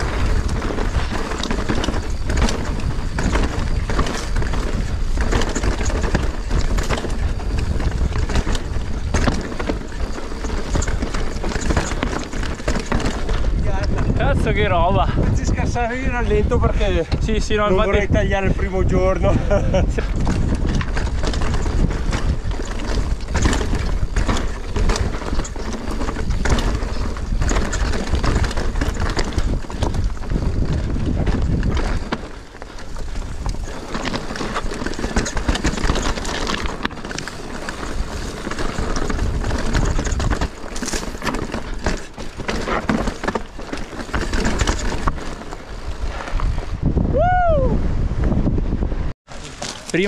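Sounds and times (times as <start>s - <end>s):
tyres crunching over stones: 0.0s - 14.9s, 15.6s - 46.8s, 49.3s - 50.0s
bike rattling over bumps: 0.0s - 50.0s
wind buffeting microphone: 0.0s - 50.0s.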